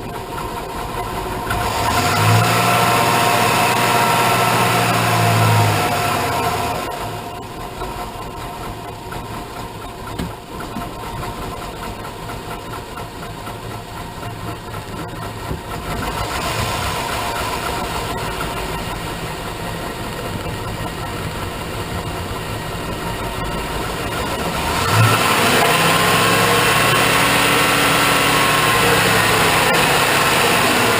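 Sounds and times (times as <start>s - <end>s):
engine idling roughly: 0.0s - 30.9s.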